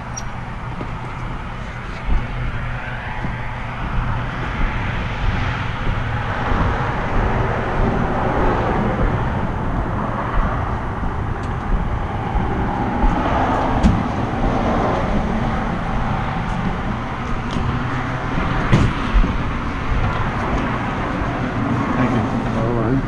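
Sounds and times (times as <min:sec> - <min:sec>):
dirt bike engine running: 0:00.0 - 0:20.8.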